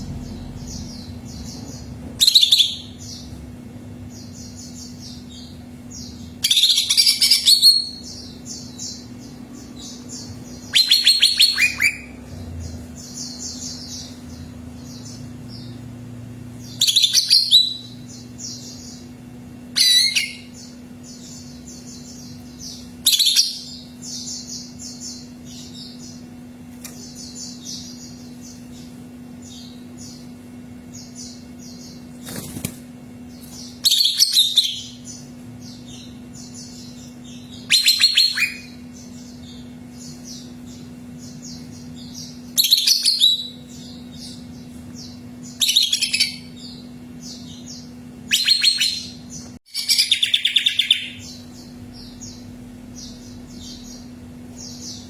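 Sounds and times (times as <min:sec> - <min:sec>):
bird singing: 0:00.0 - 0:32.5, 0:33.2 - 0:55.0
faint steady hum: 0:00.0 - 0:55.0.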